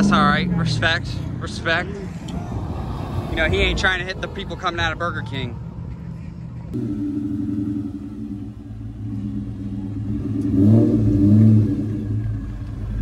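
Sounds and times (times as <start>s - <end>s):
car engine with loud exhaust: 0.0s - 13.0s.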